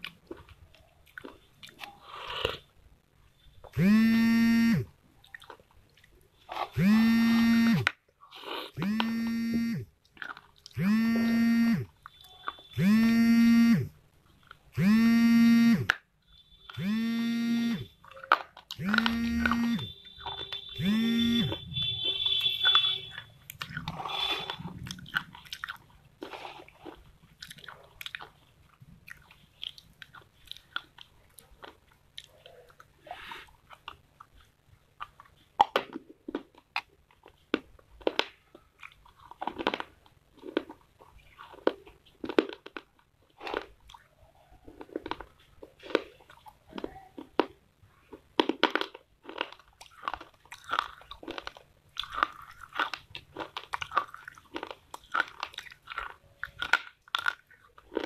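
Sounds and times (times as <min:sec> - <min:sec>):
clay pot being chewed: 0:00.0 - 0:58.0.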